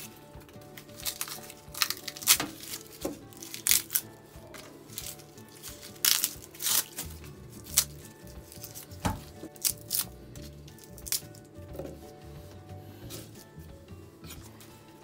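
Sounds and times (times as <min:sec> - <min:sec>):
garlic skins crackling: 0:00.0 - 0:12.2.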